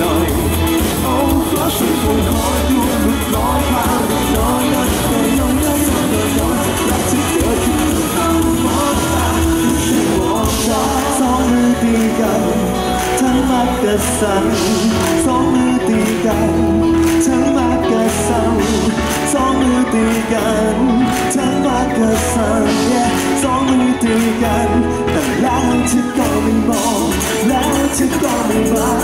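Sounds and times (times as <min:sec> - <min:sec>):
live pop-rock band: 0:00.0 - 0:29.0
person singing: 0:00.0 - 0:29.0.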